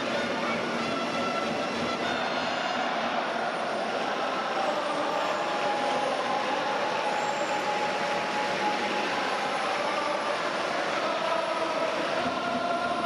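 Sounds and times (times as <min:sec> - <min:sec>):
large crowd din: 0:00.0 - 0:13.0.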